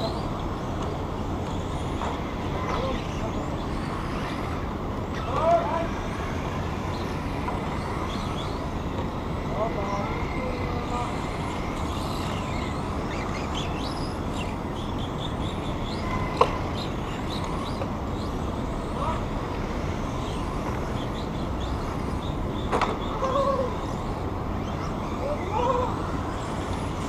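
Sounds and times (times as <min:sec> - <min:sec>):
rc car motors whining: 0:00.0 - 0:27.0.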